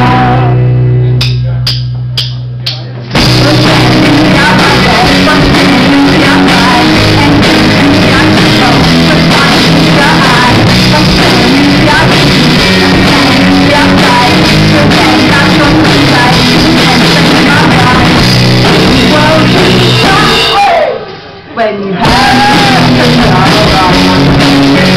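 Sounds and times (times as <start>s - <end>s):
electric guitar: 0.0s - 1.6s, 3.0s - 21.3s, 22.0s - 24.9s
bass guitar: 0.0s - 20.8s, 22.0s - 24.9s
drum kit: 0.0s - 21.2s, 22.0s - 24.9s.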